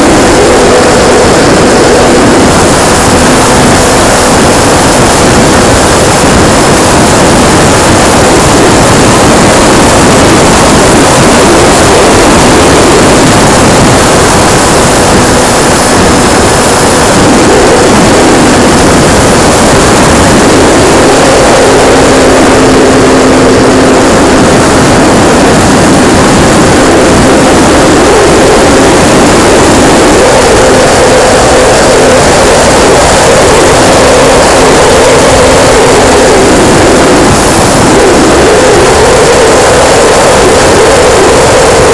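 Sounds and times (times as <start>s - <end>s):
model plane engine tone: 0.0s - 41.9s
wind rush over microphone: 0.0s - 41.9s.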